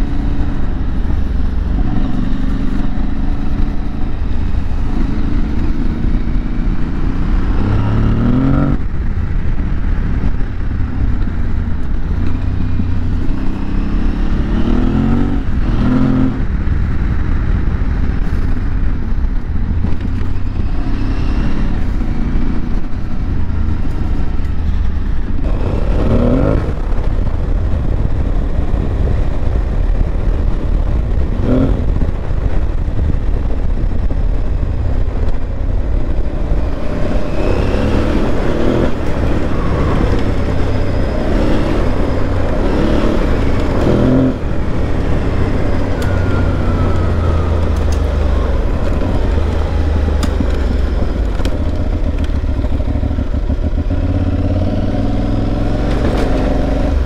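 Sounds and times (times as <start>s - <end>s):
motorcycle engine accelerating: 0.0s - 57.0s
steady low rumble: 0.0s - 57.0s.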